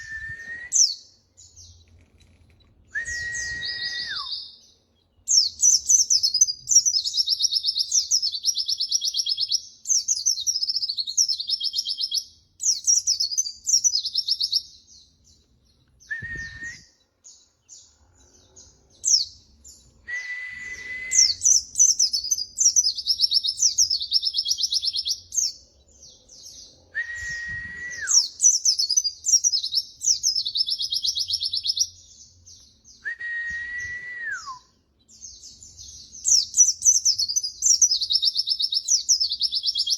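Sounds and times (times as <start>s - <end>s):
bird twittering song: 0.0s - 33.1s, 34.6s - 39.9s.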